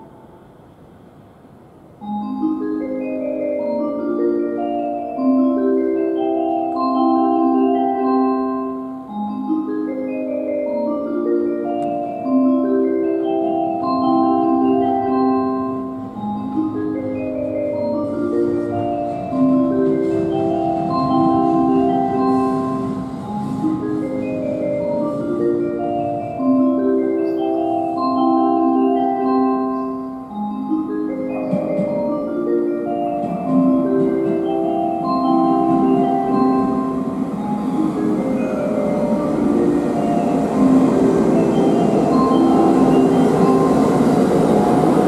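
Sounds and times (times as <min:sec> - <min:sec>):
chiming melody over loudspeaker: 0:02.0 - 0:45.0.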